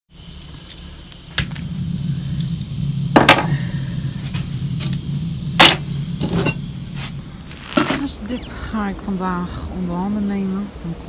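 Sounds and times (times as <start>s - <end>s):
gas burner rumbling: 0.1s - 11.0s.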